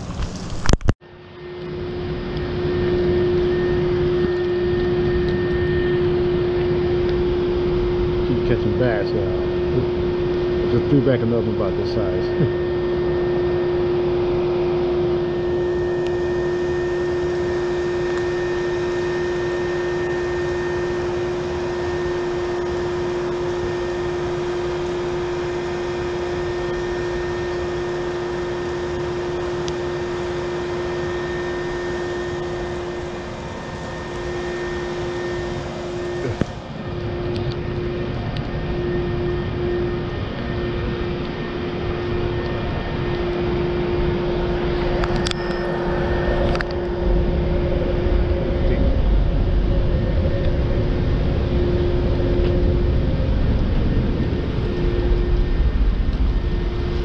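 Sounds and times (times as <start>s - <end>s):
machine drone: 0.0s - 57.0s.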